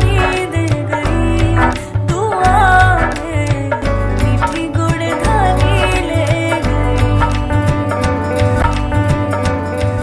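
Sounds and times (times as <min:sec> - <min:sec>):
person singing: 0:00.0 - 0:09.6
pop song with heavy bass beat: 0:00.0 - 0:10.0.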